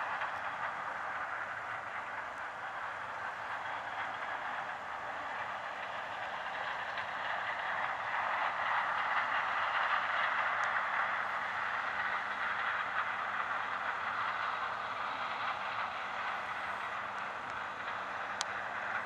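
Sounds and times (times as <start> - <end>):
harvester and tractor running: 0.0 - 19.0.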